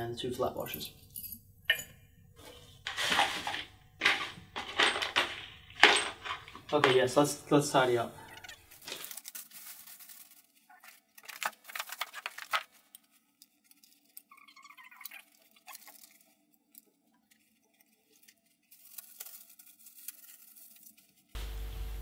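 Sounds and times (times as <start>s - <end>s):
plastic packaging rustling: 2.4s - 21.4s.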